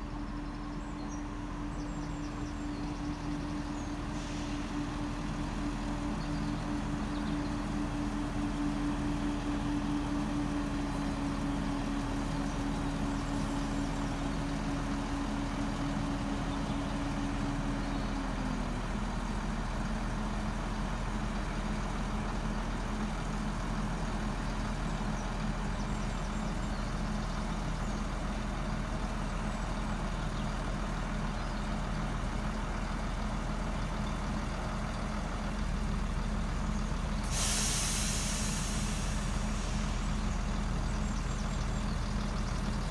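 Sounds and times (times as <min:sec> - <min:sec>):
diesel train engine ticking over: 0:00.0 - 0:42.9.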